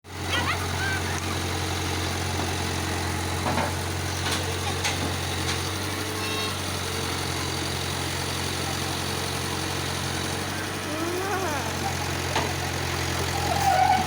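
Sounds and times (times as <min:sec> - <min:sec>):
diesel engine idling: 0:00.1 - 0:14.0.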